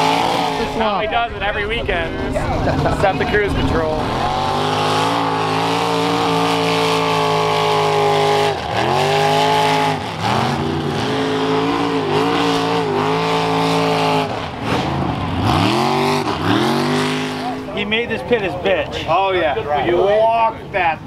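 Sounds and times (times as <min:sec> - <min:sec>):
vehicle engine revving: 0:00.0 - 0:18.1.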